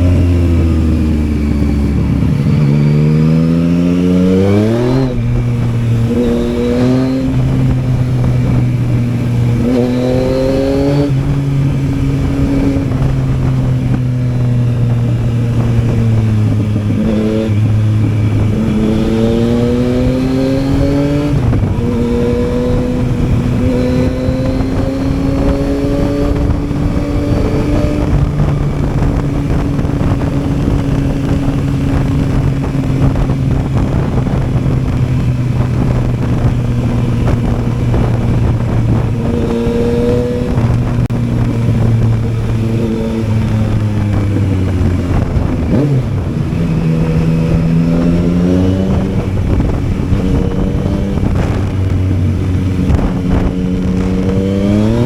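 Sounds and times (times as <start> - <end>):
motorcycle engine under load: 0.0 - 55.0
wind noise: 0.0 - 55.0.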